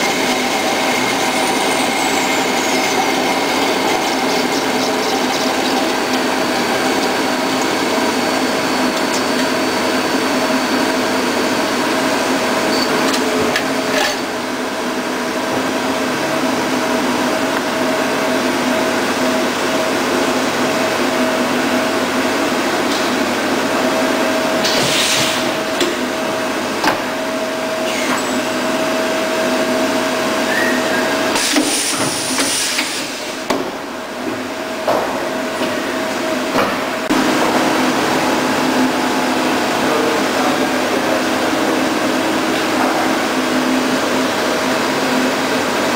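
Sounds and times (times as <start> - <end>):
machine tool whirring and humming: 0.0 - 45.9.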